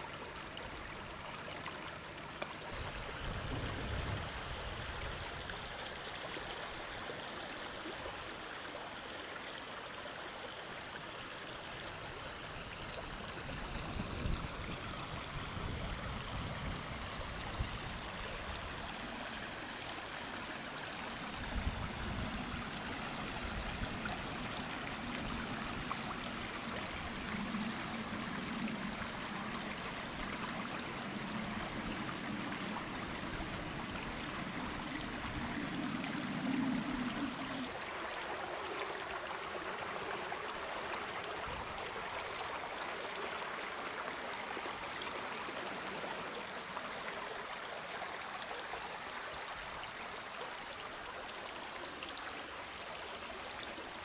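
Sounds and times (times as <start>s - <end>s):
brook running over rocks: 0.0s - 54.0s.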